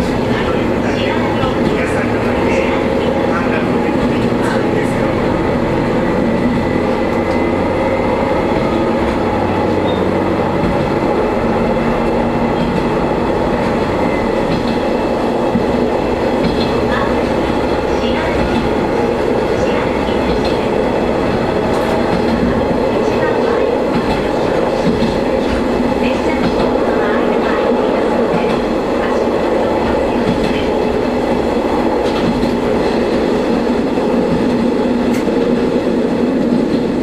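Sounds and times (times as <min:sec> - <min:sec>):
diesel railcar engine drone: 0:00.0 - 0:37.0.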